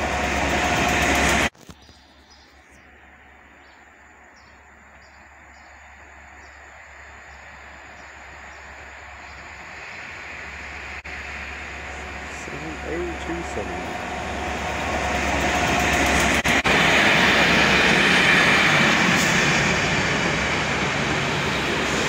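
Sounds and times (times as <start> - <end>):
distant diesel locomotive rumble: 0.0 - 22.0.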